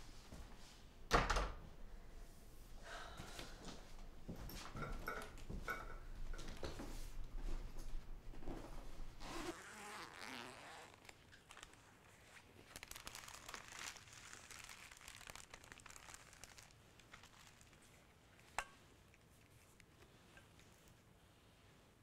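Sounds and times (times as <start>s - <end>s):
crinkling and rustling handling noise: 4.0s - 22.0s.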